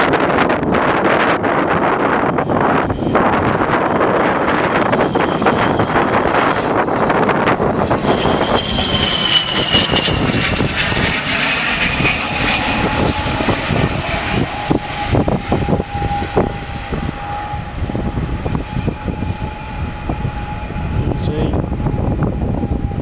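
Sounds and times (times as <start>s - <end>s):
turboprop airliner passing overhead: 0.0s - 23.0s
wind buffeting microphone: 0.0s - 23.0s.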